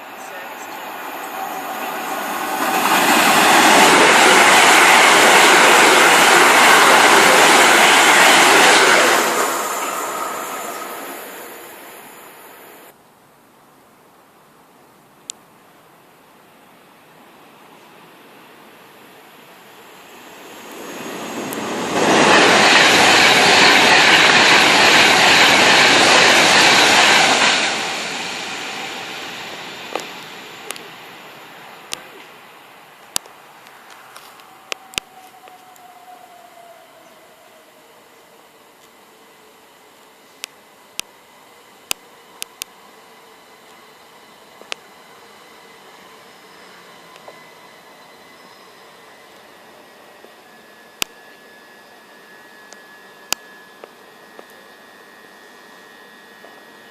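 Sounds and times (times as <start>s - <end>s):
train passing at speed: 0.0s - 13.0s, 16.8s - 56.9s.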